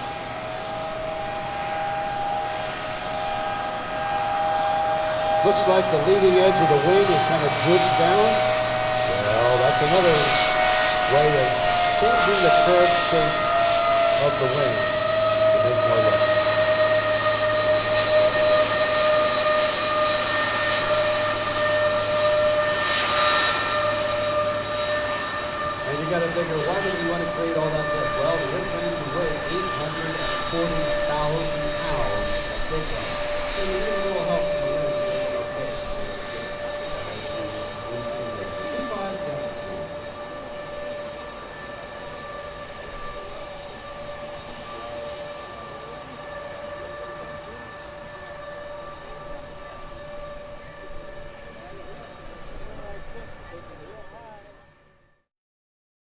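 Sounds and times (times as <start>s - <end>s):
jet engines whining: 0.0s - 55.1s.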